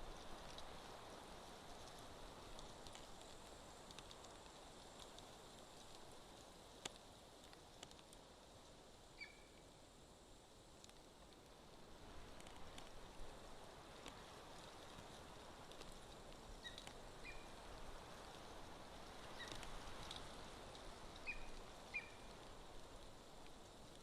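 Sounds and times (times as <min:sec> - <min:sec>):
light clicks and rustles: 0:00.0 - 0:08.8, 0:10.7 - 0:24.0.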